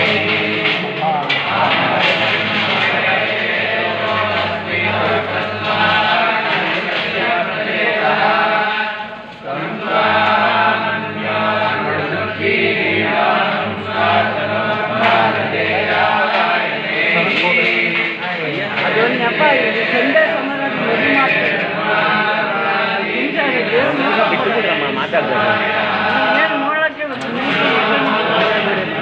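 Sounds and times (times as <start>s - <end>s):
group chanting in unison: 0.0s - 29.0s.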